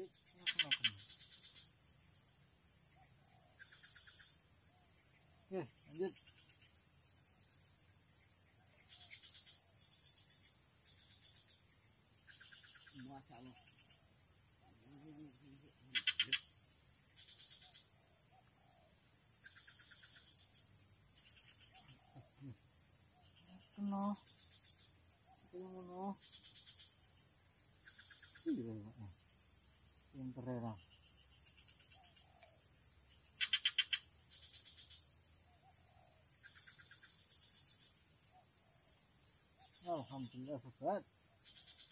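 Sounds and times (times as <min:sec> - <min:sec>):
high-pitched insect drone: 0:00.0 - 0:41.9
insect chirp trains: 0:00.0 - 0:41.9.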